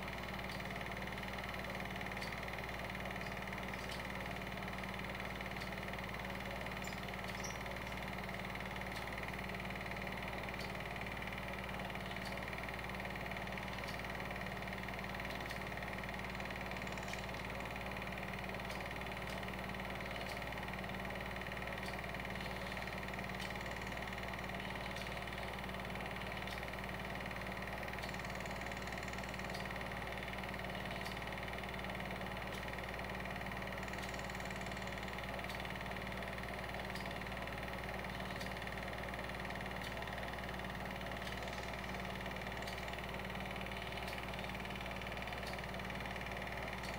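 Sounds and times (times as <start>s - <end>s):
film projector motor whirring: 0.0s - 46.9s
faint projector clicks: 0.4s - 4.2s, 6.5s - 14.4s, 15.0s - 33.0s, 33.9s - 46.9s.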